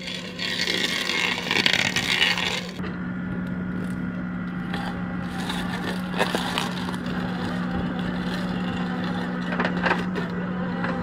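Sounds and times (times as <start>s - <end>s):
wood crunching and scraping: 0.0s - 2.8s, 3.7s - 11.0s
backhoe loader engine running: 0.0s - 11.0s.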